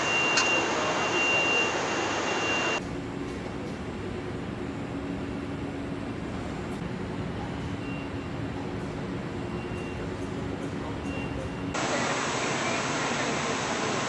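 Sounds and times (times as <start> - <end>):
industrial machinery with high whine: 0.0 - 14.0.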